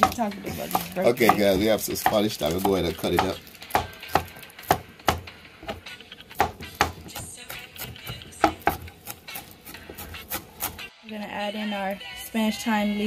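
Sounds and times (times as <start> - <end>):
knife chopping on cutting board: 0.0 - 10.9.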